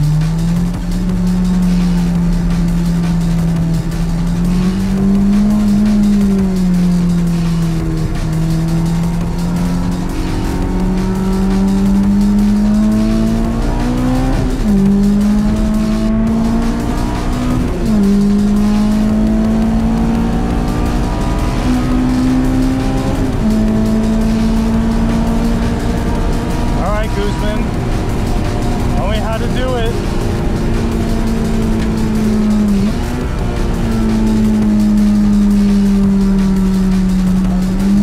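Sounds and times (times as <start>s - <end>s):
car engine at high revs: 0.0s - 38.0s.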